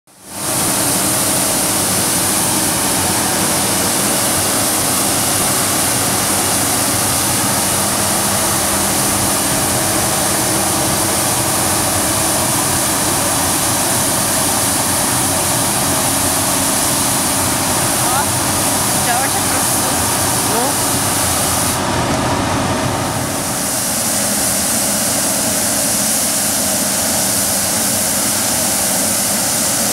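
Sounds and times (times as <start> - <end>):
street sweeper engine and suction: 0.2 - 29.9.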